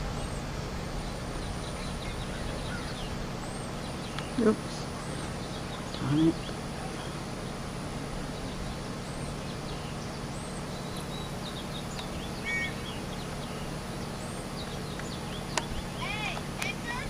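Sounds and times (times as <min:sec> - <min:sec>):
outdoor background noise: 0:00.0 - 0:17.0
small birds chirping: 0:00.0 - 0:17.0.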